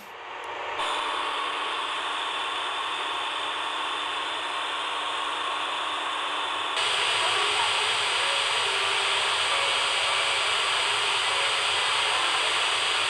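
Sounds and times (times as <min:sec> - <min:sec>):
radio static hiss: 0:00.8 - 0:13.0.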